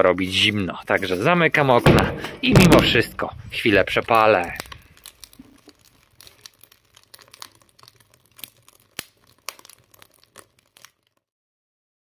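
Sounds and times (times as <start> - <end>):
wood fire crackling and popping: 0.0 - 11.3.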